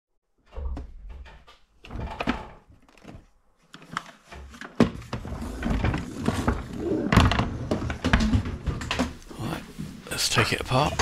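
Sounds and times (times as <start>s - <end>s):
objects knocking and clunking: 0.4s - 10.0s, 10.7s - 11.0s.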